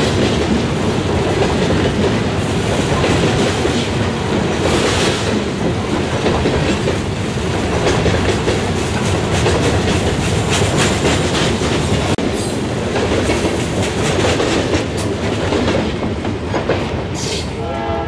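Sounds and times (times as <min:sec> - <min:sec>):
rumble of wheels on rail: 0:00.0 - 0:18.0.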